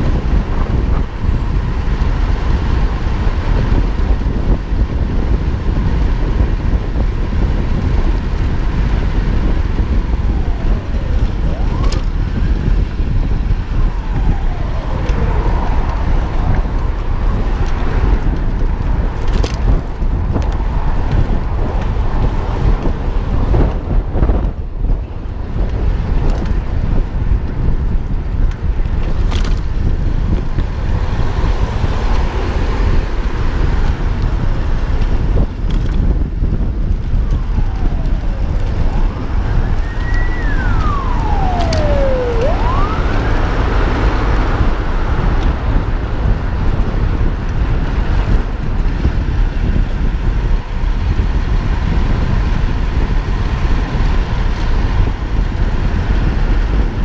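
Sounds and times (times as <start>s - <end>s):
vehicles passing by: 0.0s - 57.0s
wind buffeting microphone: 0.0s - 57.0s.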